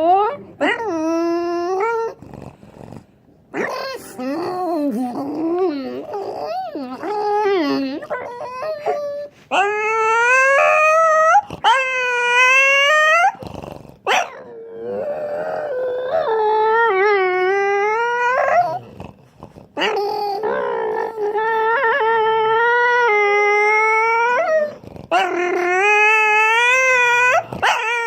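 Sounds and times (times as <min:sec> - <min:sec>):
dog howling: 0:03.6 - 0:13.4, 0:14.1 - 0:18.9, 0:19.8 - 0:28.0.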